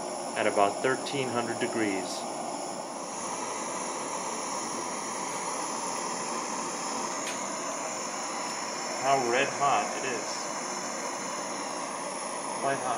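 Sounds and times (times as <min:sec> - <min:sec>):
propane burner hissing: 0:00.0 - 0:12.9.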